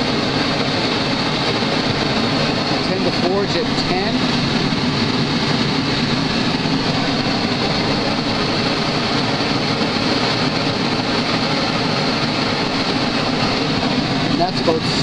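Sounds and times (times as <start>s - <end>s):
propane burners roaring: 0.0s - 15.0s.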